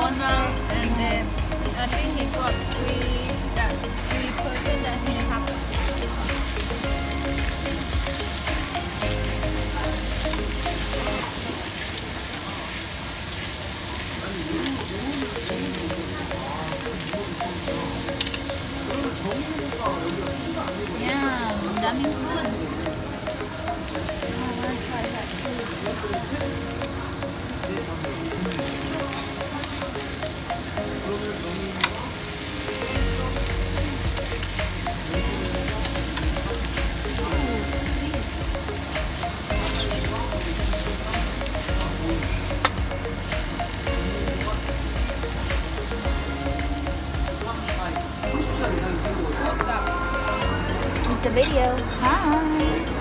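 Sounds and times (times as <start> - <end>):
meat sizzling on grill plate: 0.0 - 52.6.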